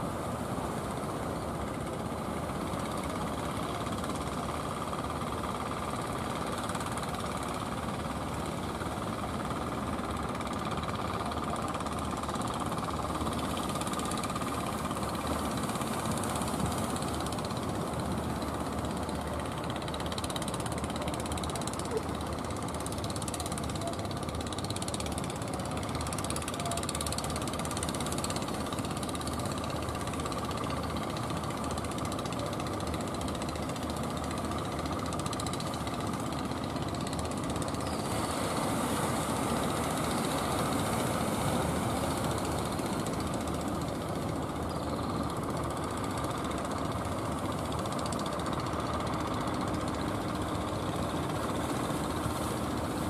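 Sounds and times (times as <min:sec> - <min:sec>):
boat engines knocking drone: 0:00.0 - 0:53.0.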